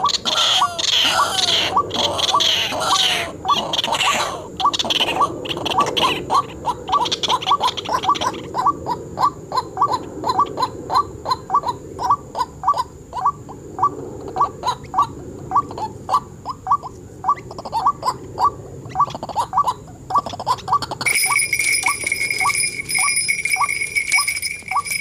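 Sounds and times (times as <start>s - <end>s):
waterhen harsh kwak calls: 0.0s - 21.4s.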